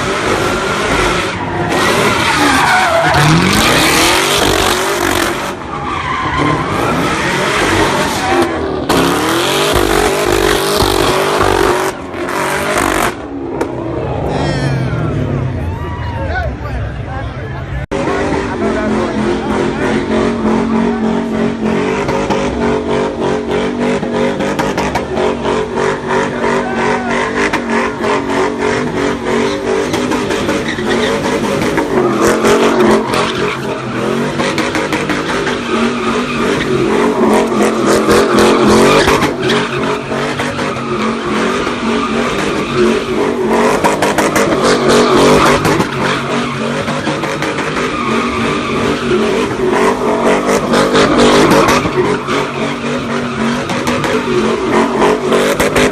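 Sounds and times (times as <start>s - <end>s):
car engine at high revs: 0.0s - 15.5s, 17.8s - 55.9s
tires squealing: 0.0s - 55.9s.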